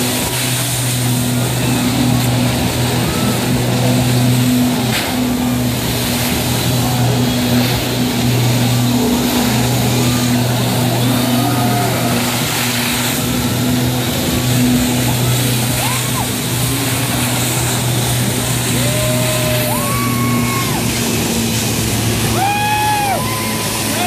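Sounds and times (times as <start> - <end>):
water jets hissing: 0.0 - 24.0
watercraft engine drone: 0.0 - 24.0.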